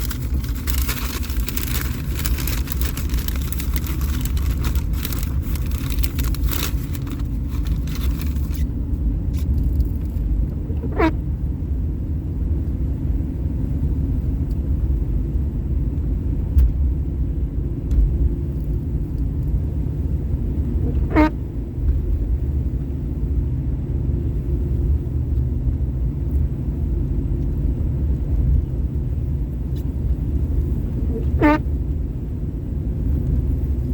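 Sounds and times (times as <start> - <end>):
road and engine rumble in car: 0.0 - 33.9.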